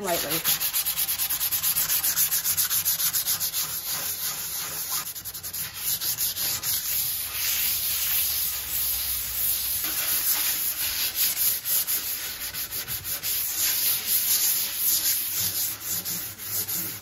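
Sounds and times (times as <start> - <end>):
sandpaper scratching on wood: 0.0 - 17.0.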